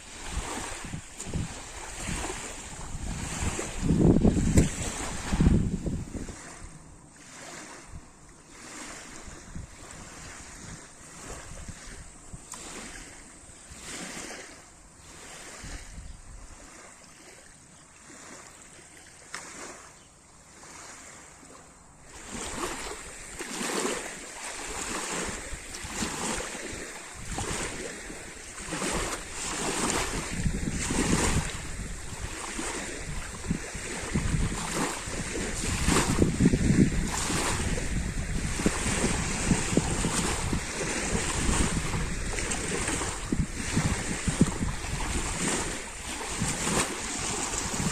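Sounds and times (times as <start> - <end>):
water lapping against shore: 0.0 - 47.9.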